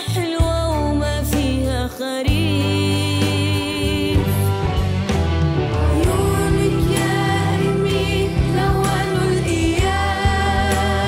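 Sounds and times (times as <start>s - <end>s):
musical backing with deep bass: 0.0s - 11.0s.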